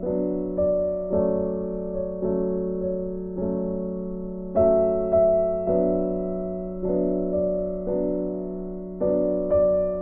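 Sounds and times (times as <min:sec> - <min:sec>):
keyboard chords: 0:00.0 - 0:10.0.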